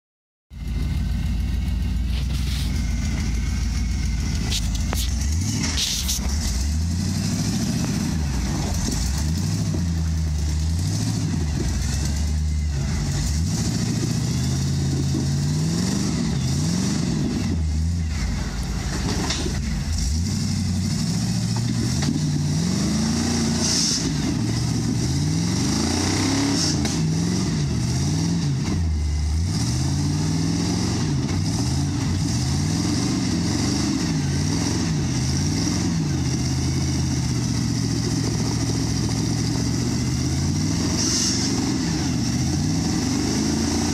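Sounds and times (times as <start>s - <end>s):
car engine revving: 0.5s - 43.9s.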